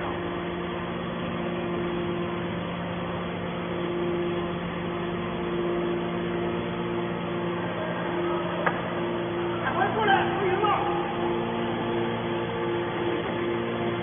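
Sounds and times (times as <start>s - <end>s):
baling machine hum: 0.0s - 14.0s
high machine tone: 0.0s - 14.0s.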